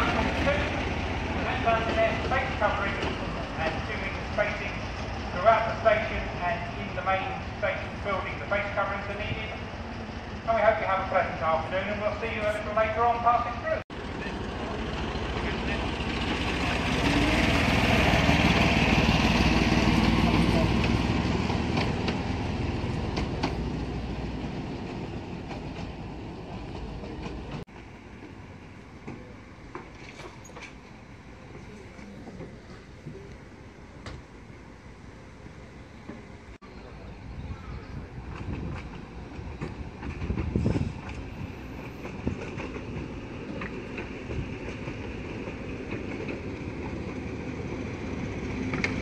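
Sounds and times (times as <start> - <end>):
wheels clicking over rail joints: 0.0 - 12.6, 14.0 - 33.4, 38.0 - 49.0
locomotive engine and wheel rumble: 0.0 - 49.0.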